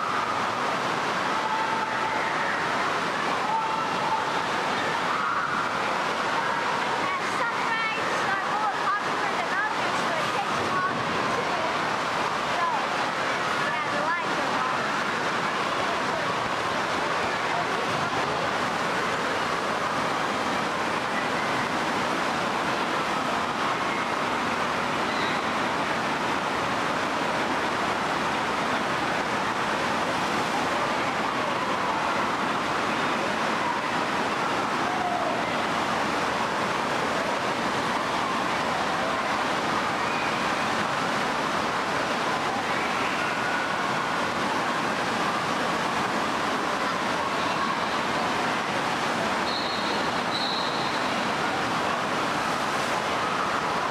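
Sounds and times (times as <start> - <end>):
faint indistinct voices: 0.0 - 53.9
rushing water: 0.0 - 53.9.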